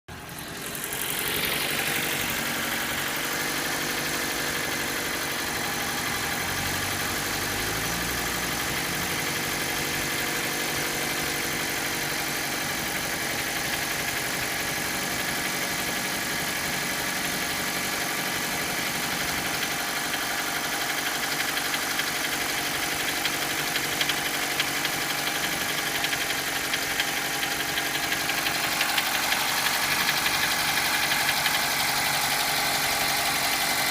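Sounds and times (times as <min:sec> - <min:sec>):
car engine idling: 0:00.1 - 0:33.9
fast engine knock ticking: 0:00.1 - 0:33.9.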